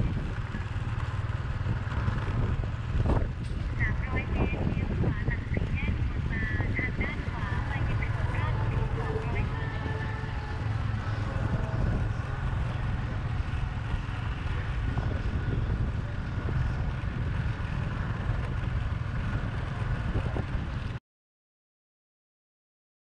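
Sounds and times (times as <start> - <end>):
motorbike rumble: 0.0 - 21.0
road noise: 0.0 - 21.0
wind buffeting microphone: 0.0 - 21.0.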